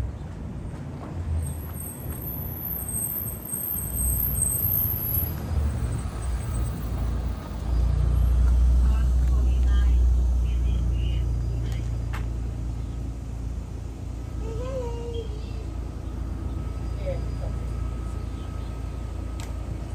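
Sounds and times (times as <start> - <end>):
bus engine rumbling: 0.0 - 19.9.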